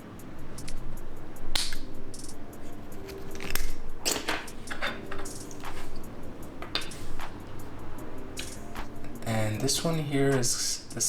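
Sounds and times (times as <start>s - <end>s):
light clicks: 0.0s - 10.6s.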